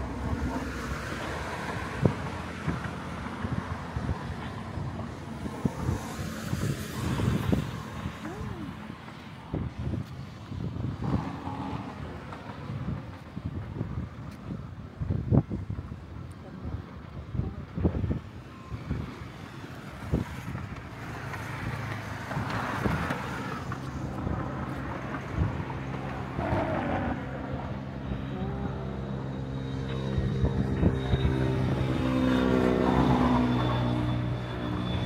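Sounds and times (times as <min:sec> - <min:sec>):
steady engine drone: 0:00.0 - 0:35.0
wind buffeting microphone: 0:00.0 - 0:35.0.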